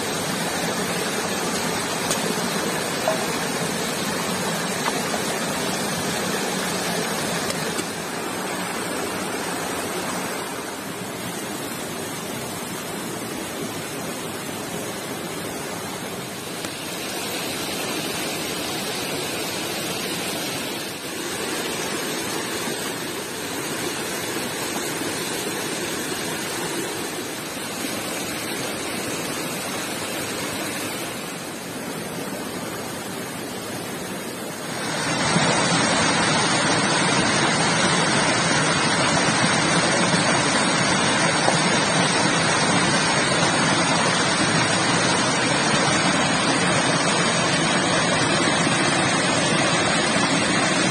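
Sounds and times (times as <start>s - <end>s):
stream rushing over stones: 0.0s - 50.9s.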